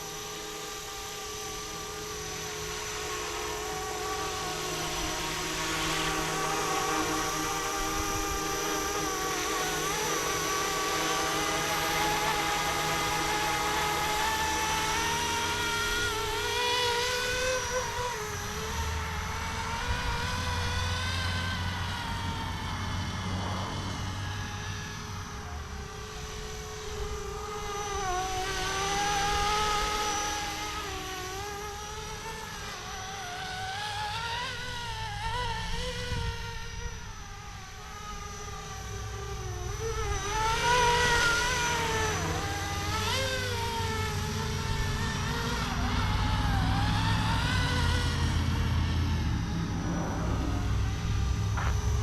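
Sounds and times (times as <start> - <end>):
model helicopter motor and rotor whine: 0.0 - 52.0.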